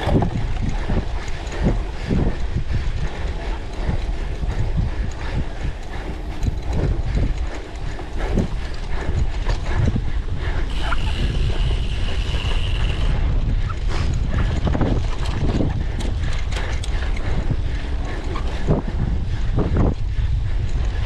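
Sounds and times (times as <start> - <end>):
bike chain rattling and clicking: 0.0 - 21.0
wind on microphone: 0.0 - 21.0.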